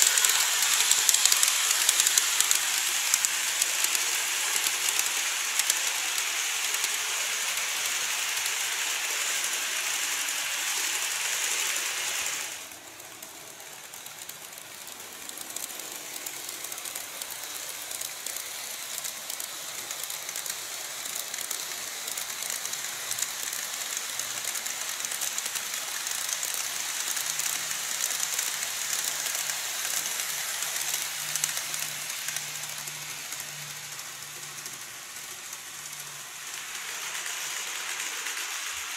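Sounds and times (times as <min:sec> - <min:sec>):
model train wheels rushing on rails: 0:00.0 - 0:38.9.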